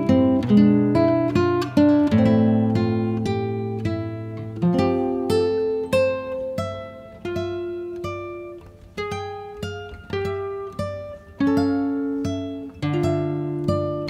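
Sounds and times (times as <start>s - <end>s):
acoustic guitar plucking: 0.0s - 14.0s.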